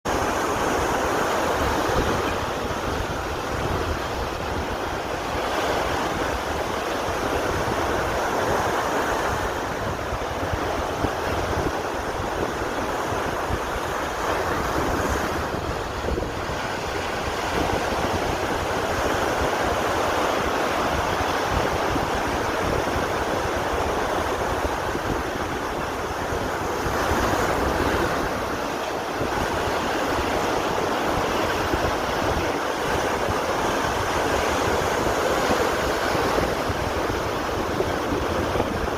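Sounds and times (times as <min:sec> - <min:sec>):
surf washing onto beach: 0:00.1 - 0:38.9
wind buffeting microphone: 0:00.1 - 0:38.9.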